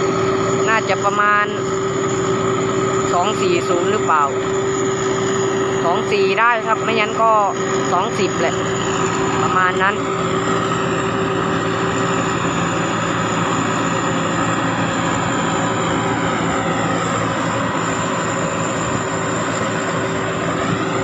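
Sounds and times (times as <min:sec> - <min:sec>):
combine harvester diesel engine drone: 0:00.0 - 0:21.0
high turbo whistle: 0:00.0 - 0:21.0.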